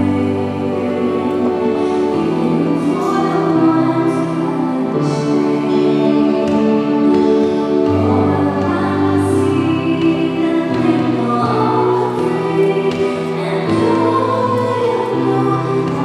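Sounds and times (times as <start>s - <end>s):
person singing slow hymn-like song: 0.0s - 16.0s.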